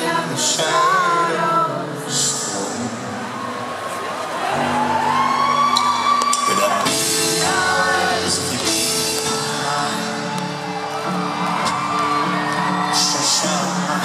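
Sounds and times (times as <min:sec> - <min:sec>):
crowd singing along and whooping: 0:00.0 - 0:14.0
live folk-rock band playing: 0:00.0 - 0:14.0.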